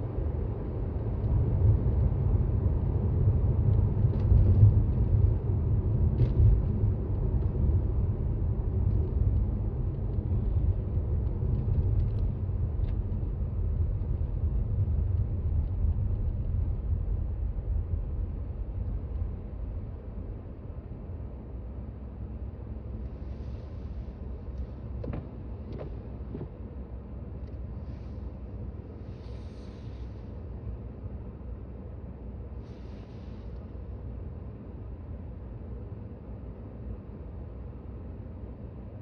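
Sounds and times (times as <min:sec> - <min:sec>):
car interior road rumble: 0:00.0 - 0:39.0.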